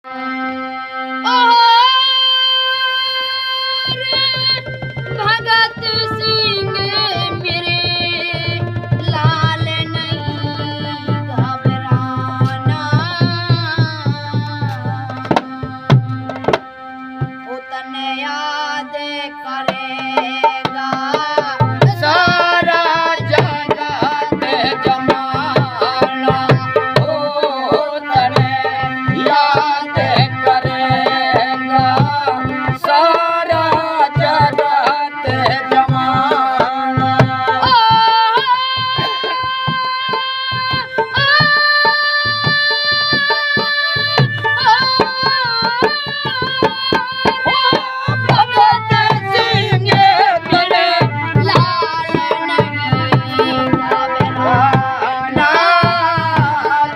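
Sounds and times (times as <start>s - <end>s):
hand drum beat: 3.8s - 16.6s, 19.7s - 56.9s.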